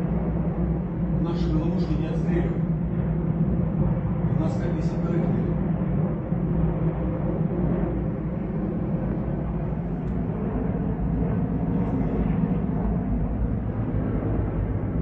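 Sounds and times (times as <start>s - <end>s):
helicopter rotors droning: 0.0s - 15.0s.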